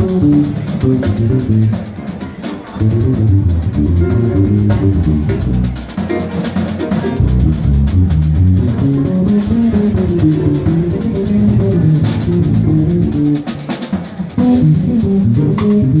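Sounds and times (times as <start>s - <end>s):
bass guitar playing: 0.0s - 16.0s
drum kit: 0.0s - 16.0s.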